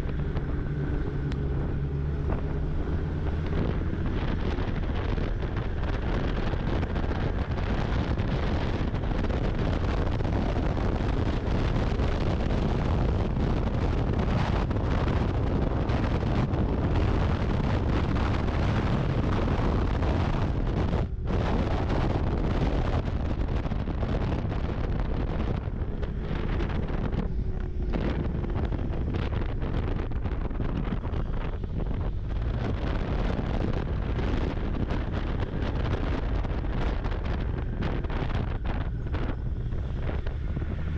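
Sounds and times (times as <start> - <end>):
snowmobile engine running: 0.0 - 40.9
wind buffeting microphone: 0.0 - 40.9.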